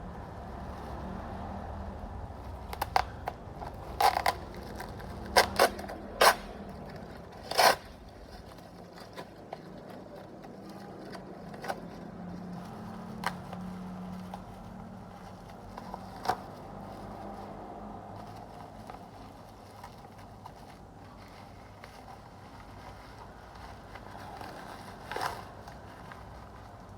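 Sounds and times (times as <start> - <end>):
packaging clicks and scrapes: 2.4 - 26.9.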